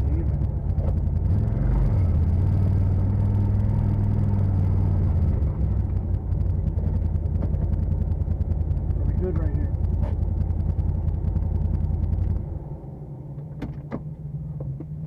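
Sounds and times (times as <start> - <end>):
utility vehicle engine droning: 0.0 - 15.0.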